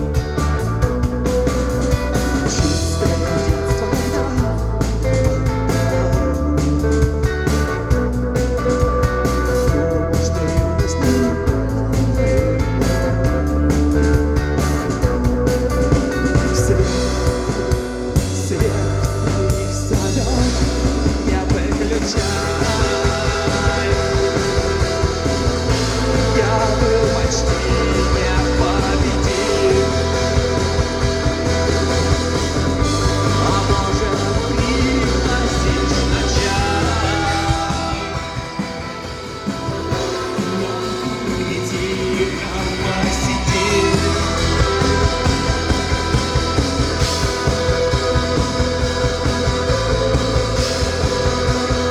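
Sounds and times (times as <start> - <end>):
bass and drums: 0.0 - 51.9
sustained electric guitars: 0.0 - 51.9.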